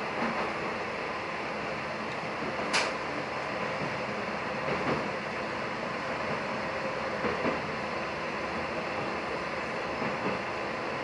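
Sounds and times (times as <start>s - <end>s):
rail joint clicks: 0.0s - 0.9s, 1.9s - 11.0s
railcar rumbling through tunnel: 0.0s - 11.0s.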